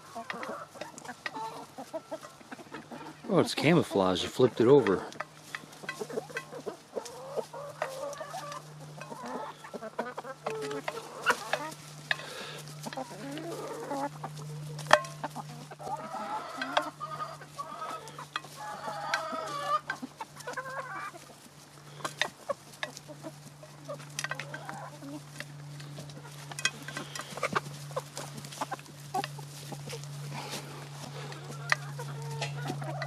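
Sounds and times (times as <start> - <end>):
hens clucking: 0.0 - 33.0
low hum: 1.7 - 33.0.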